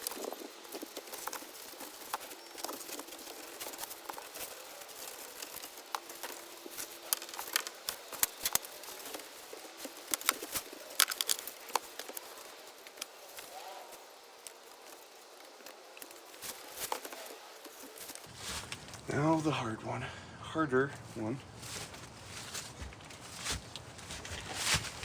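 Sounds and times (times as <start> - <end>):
crinkling: 0.0 - 19.7, 21.0 - 25.0.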